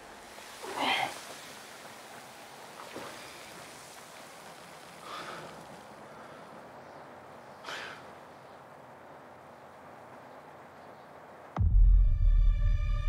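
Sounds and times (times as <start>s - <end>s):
desert wind gusting: 0.0s - 11.6s.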